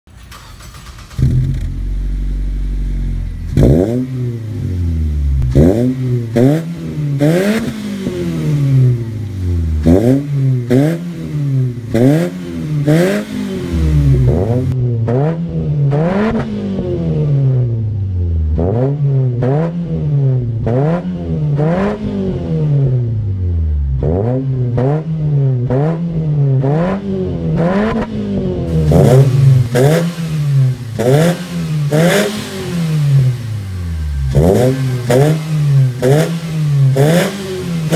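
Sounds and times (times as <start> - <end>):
car engine revving: 0.2 - 37.9.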